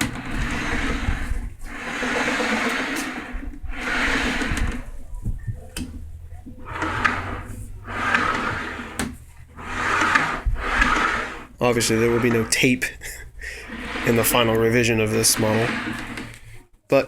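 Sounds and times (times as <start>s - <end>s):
bearings rolling on metal rails: 0.0s - 16.7s.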